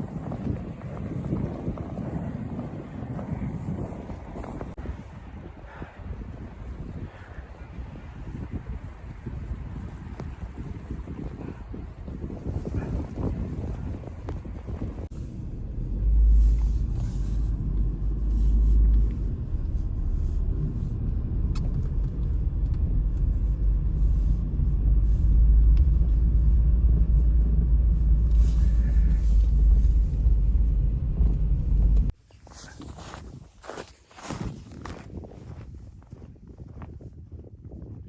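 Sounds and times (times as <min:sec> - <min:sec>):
strong wind buffeting microphone: 0:00.0 - 0:38.0.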